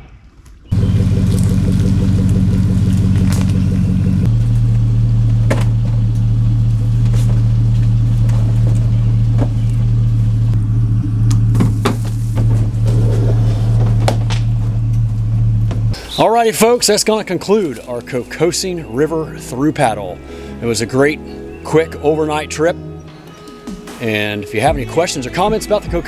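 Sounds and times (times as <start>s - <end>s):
truck engine humming: 0.7s - 24.0s.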